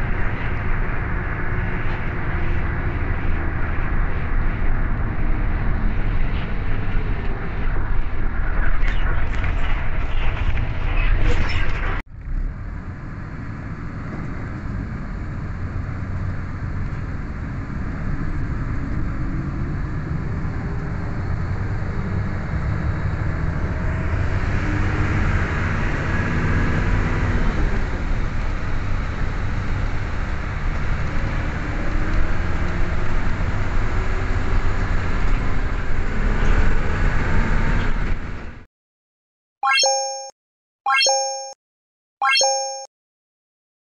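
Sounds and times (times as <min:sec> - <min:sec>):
bus engine and road rumble: 0:00.0 - 0:38.7.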